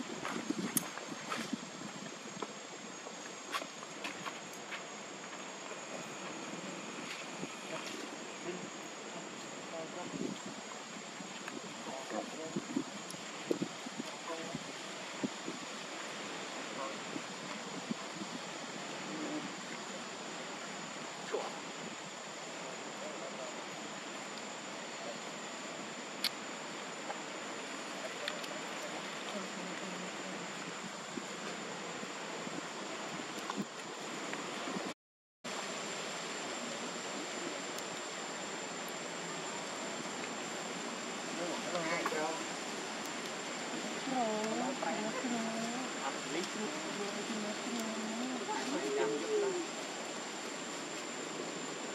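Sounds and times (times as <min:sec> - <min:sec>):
wind hiss on microphone: 0:00.0 - 0:51.9.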